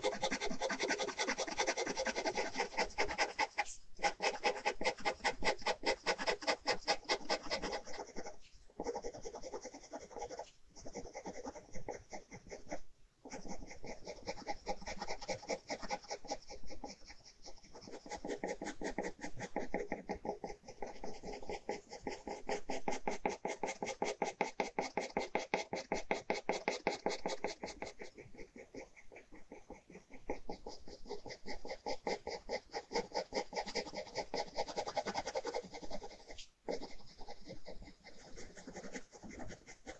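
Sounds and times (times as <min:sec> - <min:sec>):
ballpoint pen scratching on paper: 0:00.0 - 0:39.9.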